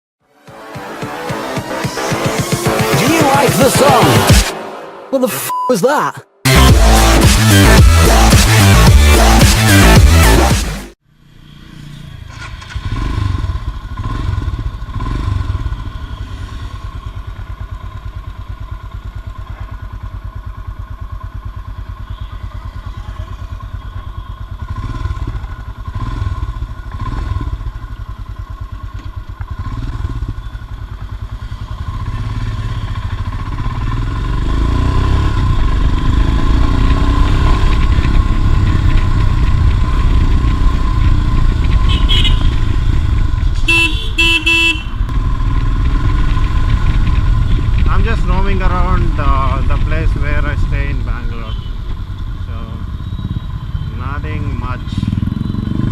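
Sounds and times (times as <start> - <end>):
motorcycle engine running: 6.4 - 55.9.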